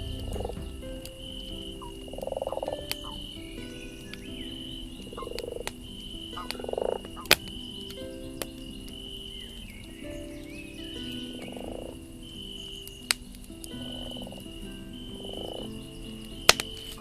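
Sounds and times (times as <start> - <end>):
campfire crackling: 0.0 - 17.0
frogs croaking: 0.0 - 17.0.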